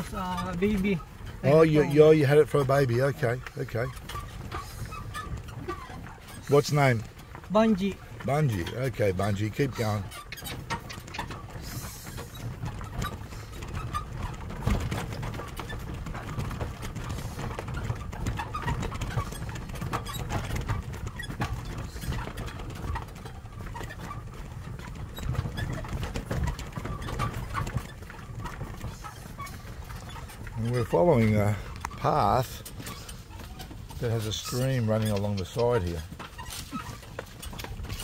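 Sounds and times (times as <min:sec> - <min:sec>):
animal plodding steps: 0:00.0 - 0:38.0
cart knocking and rattling: 0:00.0 - 0:38.0.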